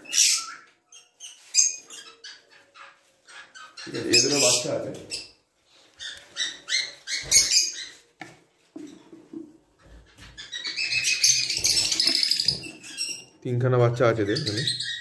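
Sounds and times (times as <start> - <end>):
lovebirds chirping and chattering: 0.0 - 15.0.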